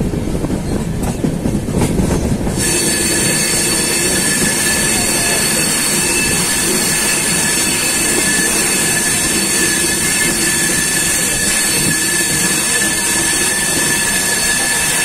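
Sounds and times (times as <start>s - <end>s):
train wheels rushing on rails: 0.0s - 15.0s
thin high tone: 2.6s - 15.0s.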